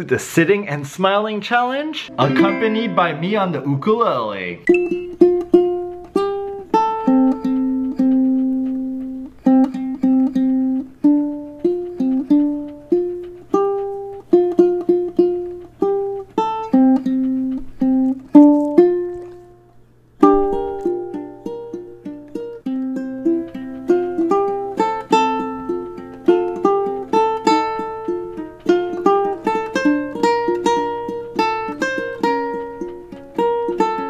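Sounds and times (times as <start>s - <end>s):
ukulele melody: 2.1s - 3.4s, 4.7s - 19.5s, 20.2s - 34.0s.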